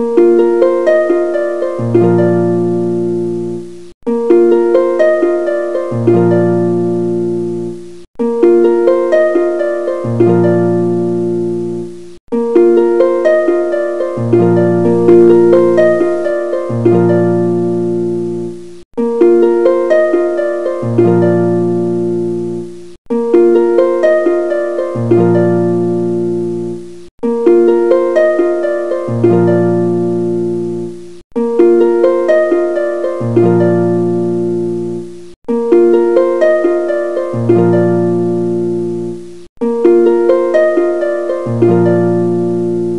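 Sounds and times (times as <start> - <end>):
plucked harp-like melody: 0.0 - 42.9.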